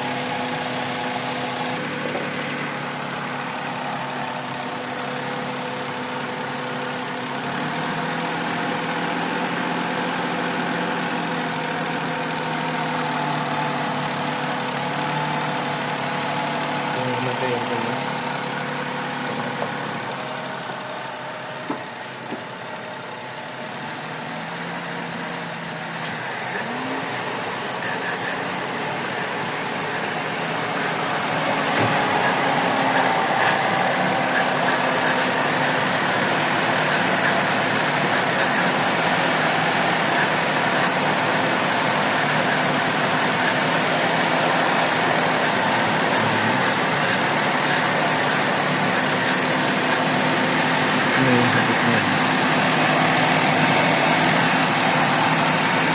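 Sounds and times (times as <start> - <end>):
car engine idling with misfire: 0.0 - 55.9.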